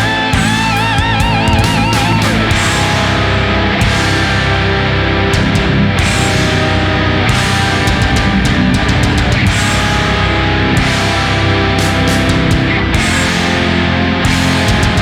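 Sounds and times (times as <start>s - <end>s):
electric guitar bending notes: 0.0s - 15.0s
heavy rock music: 0.0s - 15.0s.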